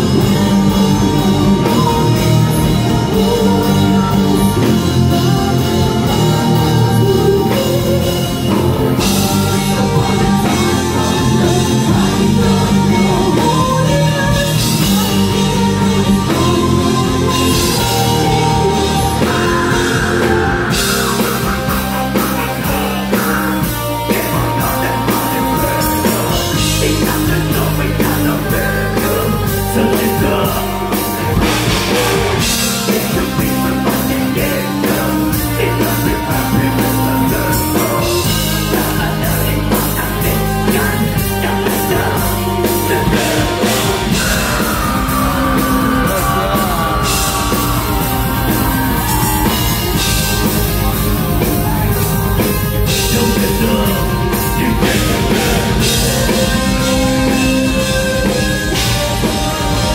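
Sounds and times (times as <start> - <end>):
bass guitar: 0.0 - 59.9
busy drumming: 0.0 - 59.9
distorted guitars: 0.0 - 59.9
keyboard lines: 0.0 - 59.9
metal vocals: 0.0 - 59.9.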